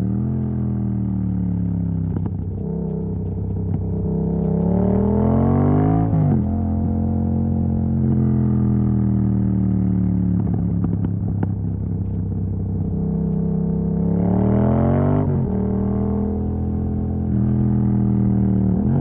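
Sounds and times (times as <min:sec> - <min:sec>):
exhaust crackle: 0:00.0 - 0:19.0
motorcycle engine revving: 0:00.0 - 0:19.0.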